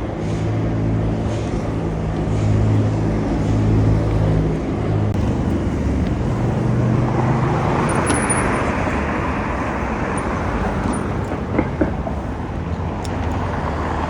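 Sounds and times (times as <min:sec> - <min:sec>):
car engines humming: 0:00.0 - 0:14.0
vehicle passing: 0:00.0 - 0:14.0.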